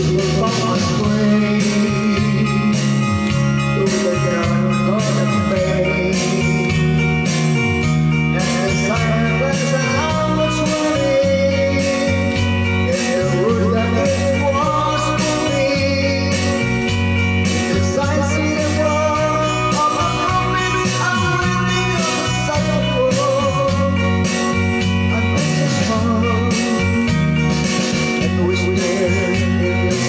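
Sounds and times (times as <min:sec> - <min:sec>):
guitar-led music with bass: 0:00.0 - 0:30.0.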